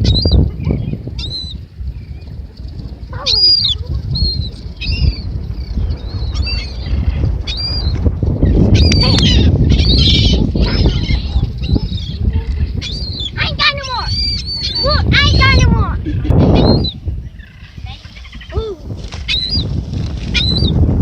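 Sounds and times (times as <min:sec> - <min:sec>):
flock of birds calling: 0:00.0 - 0:18.6.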